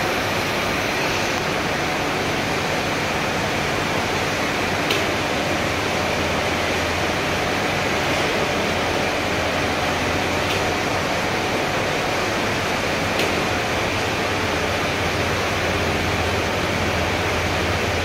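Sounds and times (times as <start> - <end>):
dyeing machinery rushing hum: 0.0 - 18.0.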